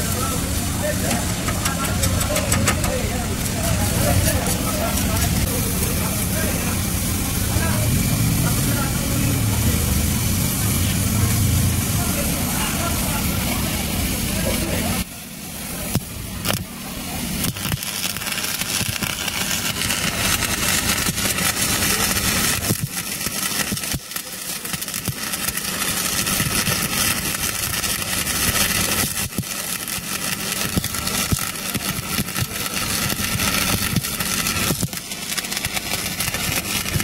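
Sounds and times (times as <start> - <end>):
welding arc crackling: 0.0 - 37.0.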